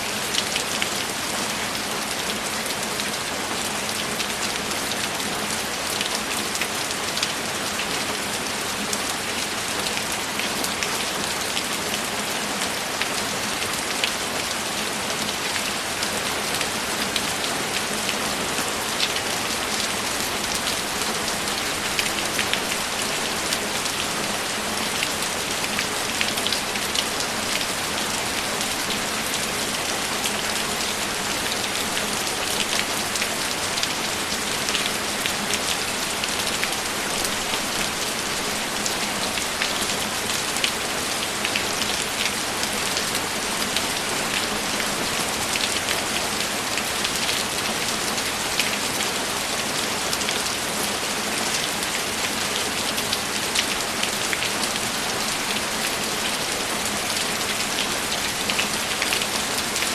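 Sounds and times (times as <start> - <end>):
rain pattering: 0.1 - 59.9.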